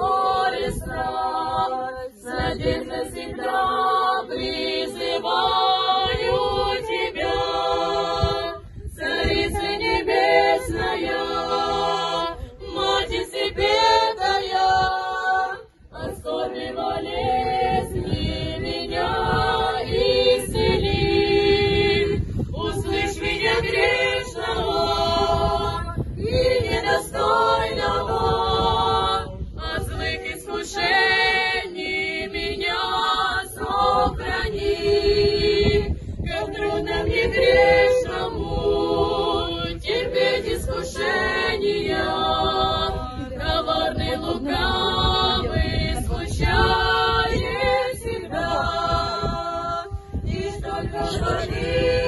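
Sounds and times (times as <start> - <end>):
group singing unaccompanied: 0.0 - 52.0.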